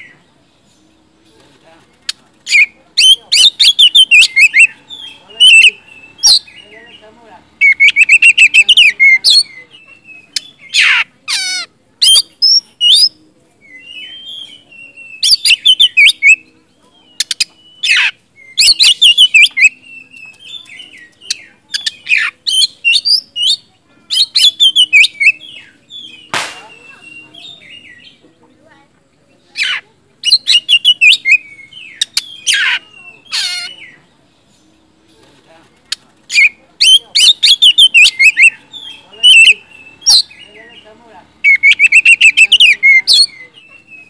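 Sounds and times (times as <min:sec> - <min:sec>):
bird singing chattering and whistling: 0:02.0 - 0:28.4, 0:29.3 - 0:35.0, 0:35.8 - 0:44.0.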